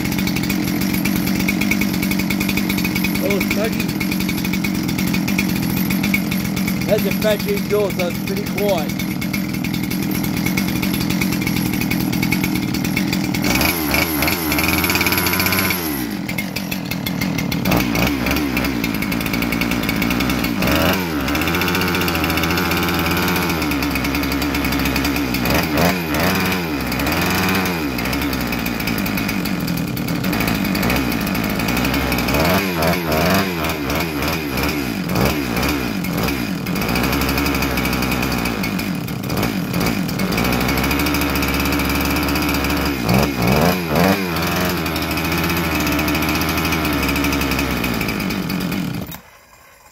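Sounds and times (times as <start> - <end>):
chainsaw engine idling and revving: 0.0 - 49.9.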